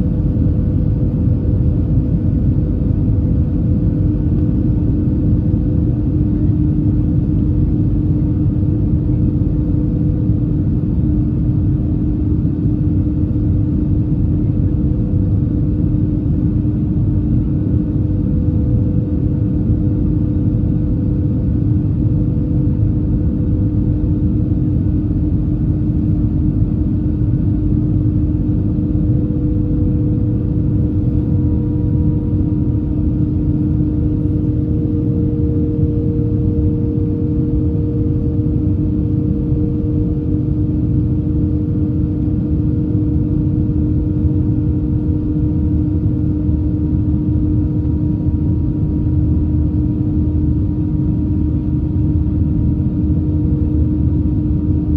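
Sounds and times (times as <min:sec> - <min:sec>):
jet engine cabin rumble: 0:00.0 - 0:54.9.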